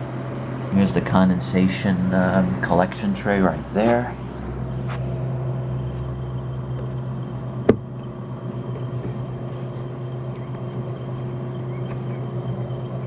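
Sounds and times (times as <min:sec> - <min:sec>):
fridge compressor humming: 0:00.0 - 0:13.0.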